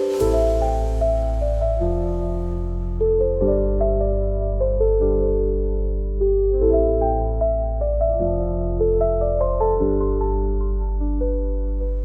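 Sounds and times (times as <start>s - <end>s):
calm meditation music: 0.0s - 12.0s.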